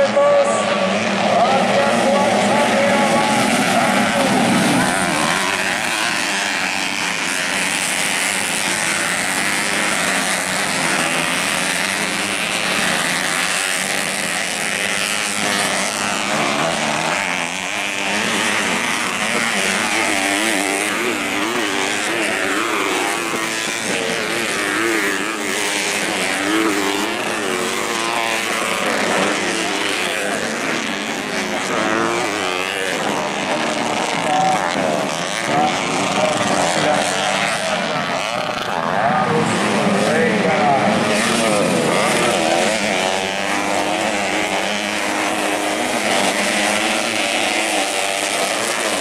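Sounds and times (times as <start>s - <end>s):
racing motorcycle engines revving: 0.0s - 49.0s.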